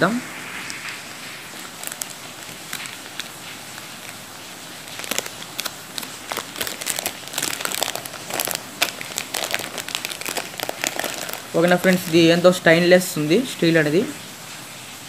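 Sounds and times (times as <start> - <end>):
plastic bag crinkling: 0.7 - 13.1.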